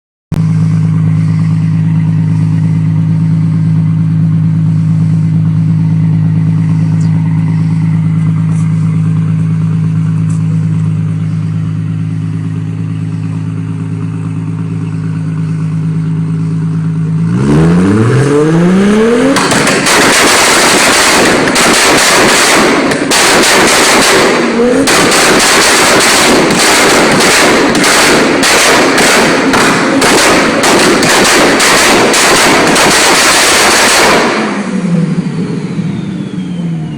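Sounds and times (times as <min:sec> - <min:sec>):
exhaust crackling and popping: 0:00.3 - 0:35.3
vehicle engine idling and revving: 0:00.3 - 0:36.9.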